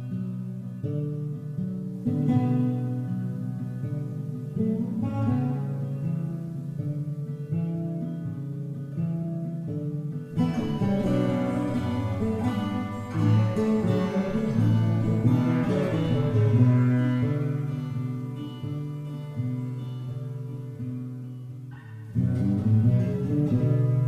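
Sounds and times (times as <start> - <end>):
plucked guitar music: 0.0 - 24.0.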